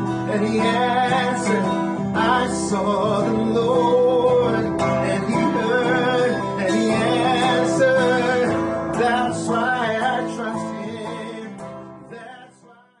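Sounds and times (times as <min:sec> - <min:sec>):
acoustic guitar: 0:00.0 - 0:13.0
person singing: 0:00.0 - 0:13.0.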